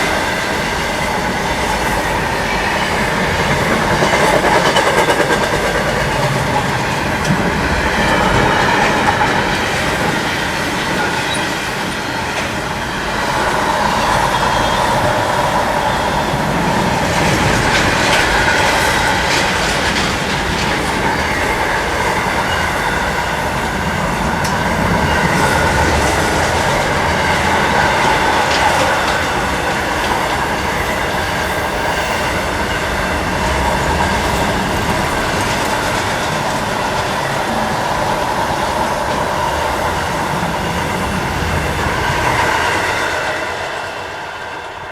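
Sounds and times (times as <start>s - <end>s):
wheels squealing on rails: 0.0s - 44.9s
wheels clicking over rail joints: 0.5s - 42.4s.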